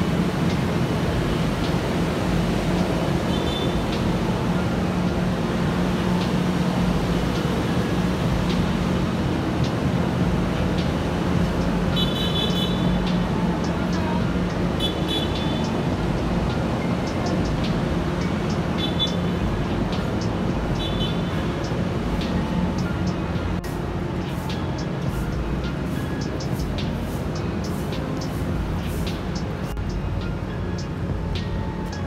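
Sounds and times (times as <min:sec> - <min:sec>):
urban traffic noise: 0:00.0 - 0:32.0.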